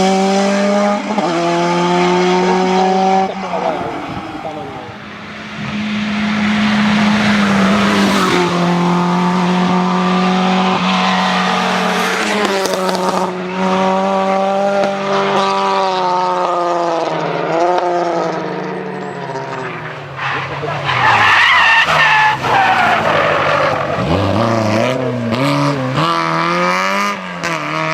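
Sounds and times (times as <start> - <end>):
car engine revving high: 0.0 - 27.9.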